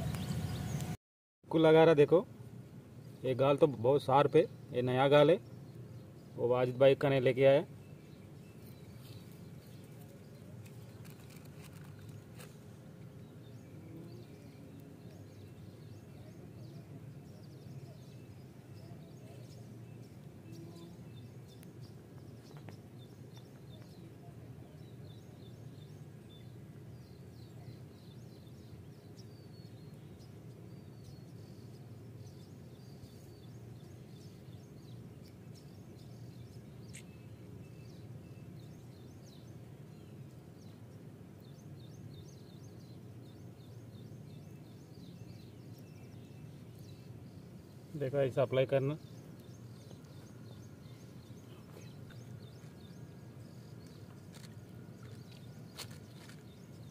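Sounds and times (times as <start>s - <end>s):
faint bird chirps: 4.1s - 56.9s.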